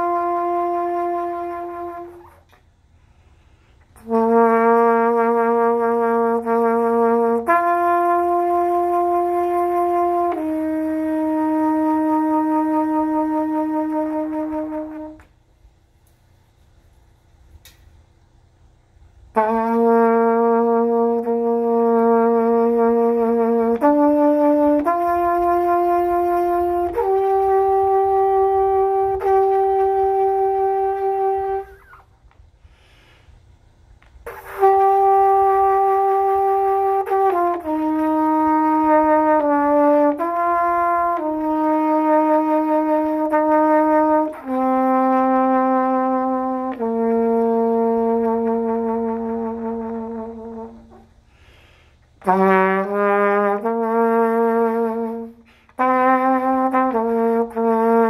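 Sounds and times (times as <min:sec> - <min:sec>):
solo trumpet melody: 0:00.0 - 0:15.8, 0:18.3 - 0:58.0.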